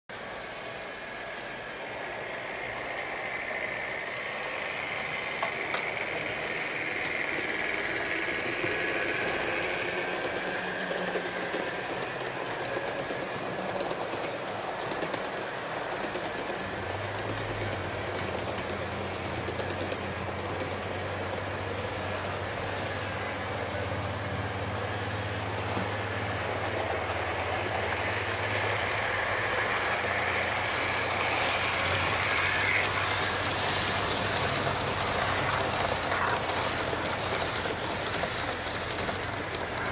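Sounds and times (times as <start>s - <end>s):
model train motor whining: 0.2s - 39.9s
wheels clicking over track: 0.2s - 39.9s.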